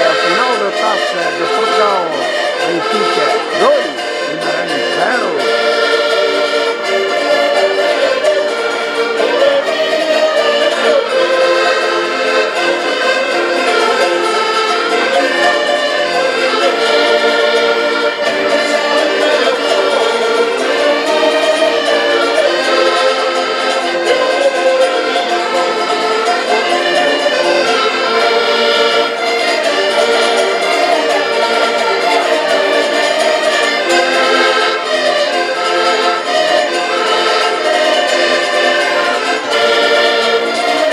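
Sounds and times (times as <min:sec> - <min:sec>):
button accordions playing folk tune: 0:00.0 - 0:40.9.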